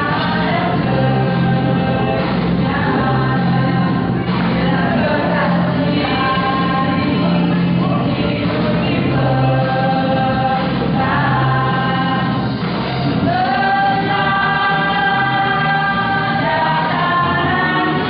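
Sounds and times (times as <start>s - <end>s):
mixed choir singing: 0.0s - 18.0s.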